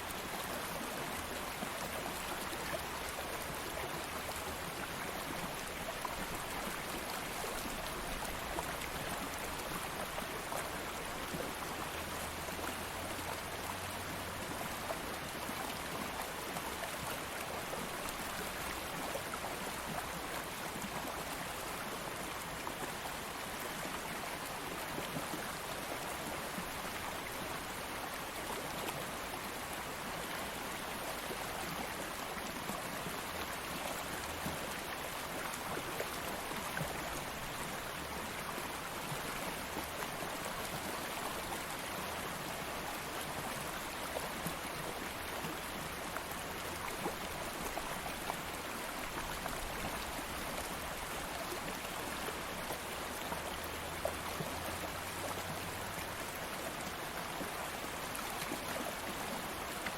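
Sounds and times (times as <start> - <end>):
stream of flowing water: 0.0 - 59.9.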